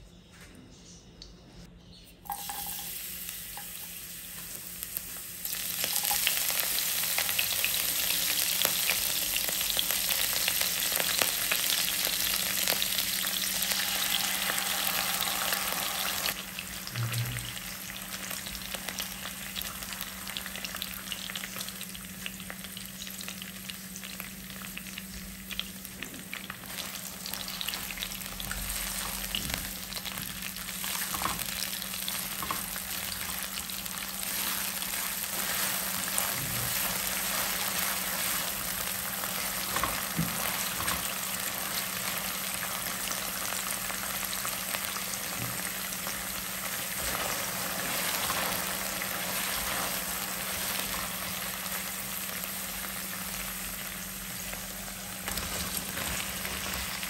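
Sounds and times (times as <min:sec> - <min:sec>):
garlic sizzling in hot oil: 0:02.2 - 0:57.0
crackles in wok: 0:02.3 - 0:57.0.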